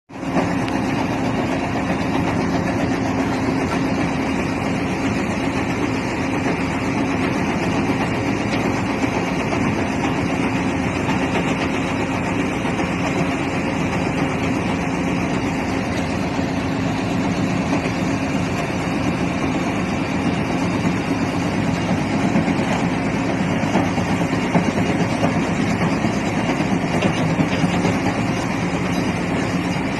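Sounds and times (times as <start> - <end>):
heavy diesel machinery droning: 0.1 - 29.9.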